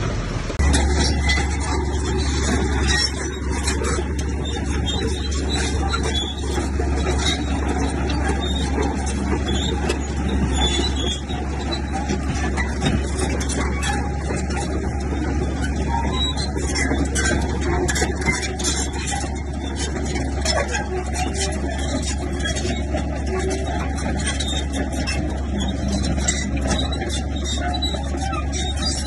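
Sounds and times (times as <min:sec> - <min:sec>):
bulldozer diesel engine droning: 0:00.0 - 0:29.0
steel tracks clanking and squeaking: 0:00.2 - 0:29.0.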